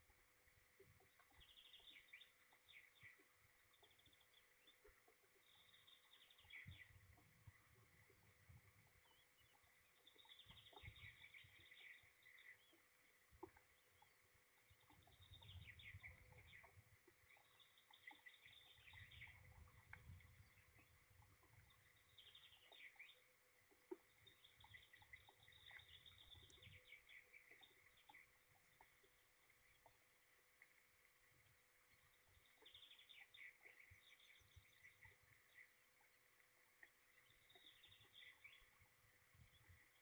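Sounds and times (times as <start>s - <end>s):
faint small bird chirping: 0.0s - 40.0s
faint steady hum: 0.0s - 40.0s.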